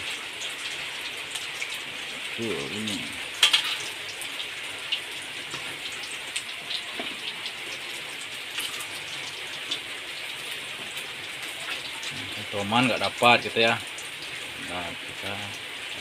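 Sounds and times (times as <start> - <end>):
oil sizzling in a wok: 0.0 - 16.0.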